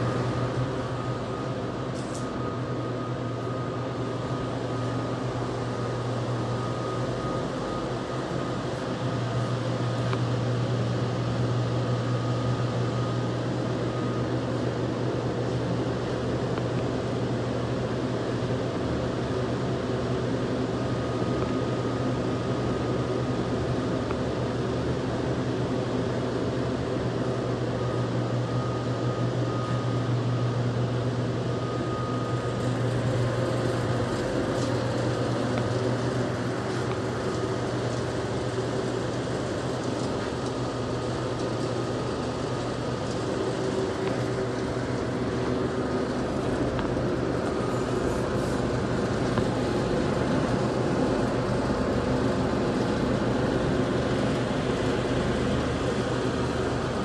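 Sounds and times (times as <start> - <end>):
refrigeration machinery hum: 0.0 - 57.0.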